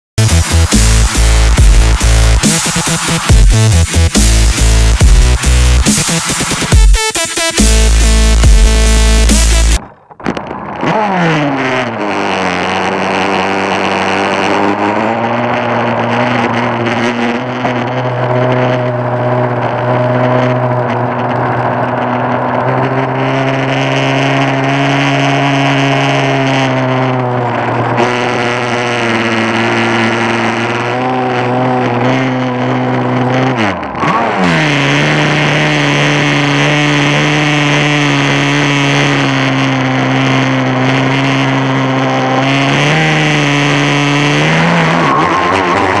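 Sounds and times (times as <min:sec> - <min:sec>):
rc boat motor running: 0:00.2 - 0:46.0.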